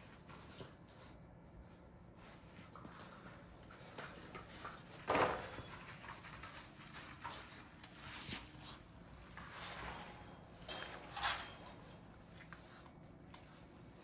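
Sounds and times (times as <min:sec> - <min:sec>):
puppies scuffling: 0:00.0 - 0:14.0.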